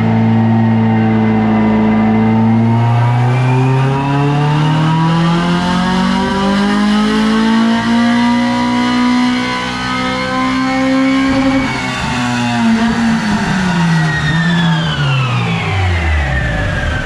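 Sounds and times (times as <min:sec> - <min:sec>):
car engine revving under load: 0:00.0 - 0:17.0.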